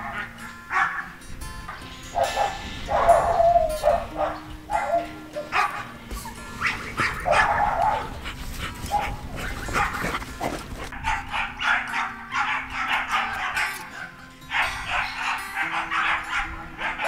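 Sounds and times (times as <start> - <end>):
dogs barking and yipping: 0.0 - 17.0.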